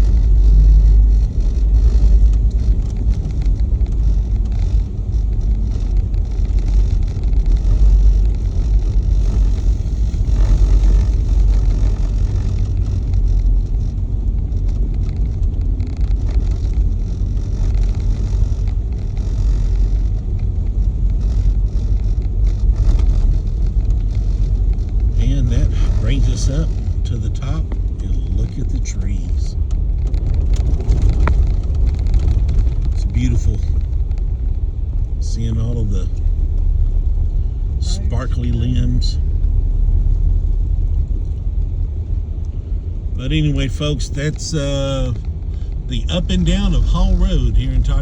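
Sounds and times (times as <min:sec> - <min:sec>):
low rumble of engine and tyres: 0:00.0 - 0:48.0
short crackles: 0:00.0 - 0:48.0.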